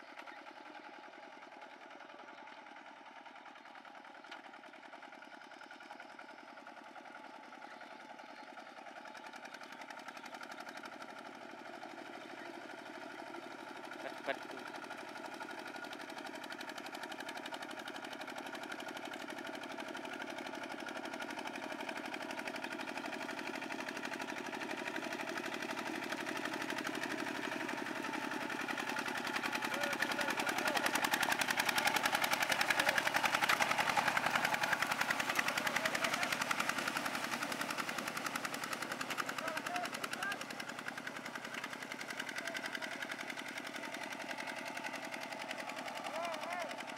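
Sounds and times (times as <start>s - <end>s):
diesel tractor engine chugging: 0.0s - 46.9s.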